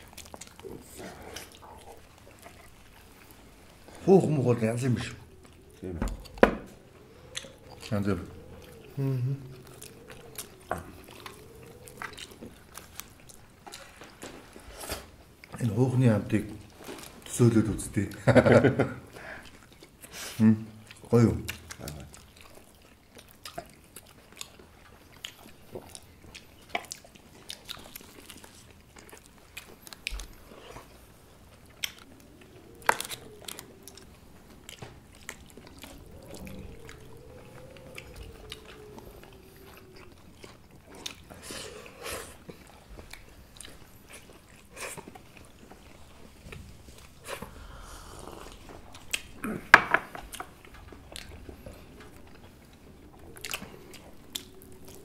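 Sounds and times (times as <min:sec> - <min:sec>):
person chewing meat: 0:00.0 - 0:04.0, 0:05.0 - 0:15.6, 0:19.2 - 0:55.0.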